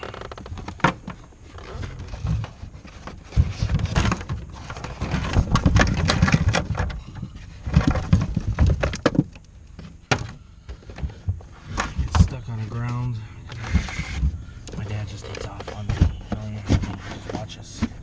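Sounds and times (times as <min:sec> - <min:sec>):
wiring knocks and rustling: 0:00.0 - 0:18.0.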